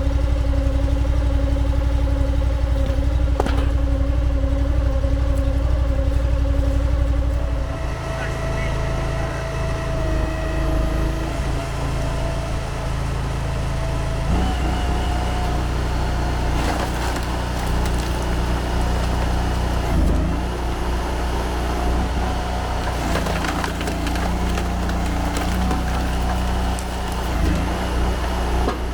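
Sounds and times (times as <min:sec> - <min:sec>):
log splitter engine running: 0:00.0 - 0:28.9
wood cracking and splintering: 0:01.1 - 0:07.9, 0:09.8 - 0:28.9.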